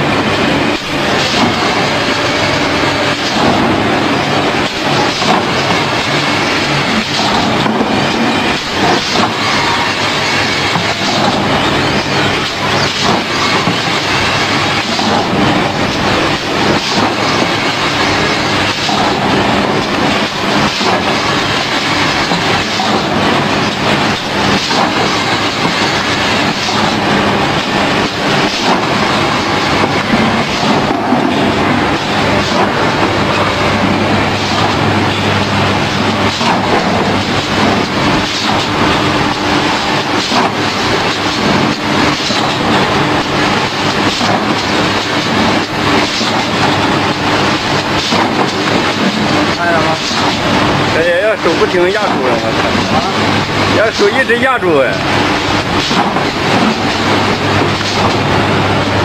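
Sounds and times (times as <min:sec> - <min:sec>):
machine clattering and clicking: 0:00.0 - 0:59.0.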